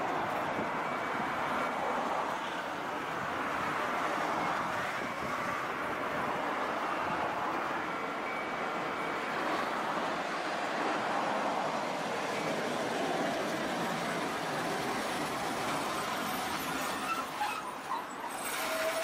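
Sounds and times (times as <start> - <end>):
city traffic: 0.0 - 19.0
tram rolling on street track: 0.0 - 19.0.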